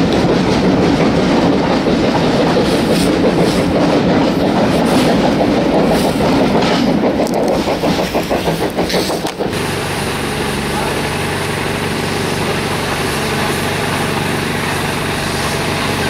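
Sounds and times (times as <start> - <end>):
train coaches rumbling: 0.0 - 16.0
wheels clicking over rail joints: 0.0 - 16.0.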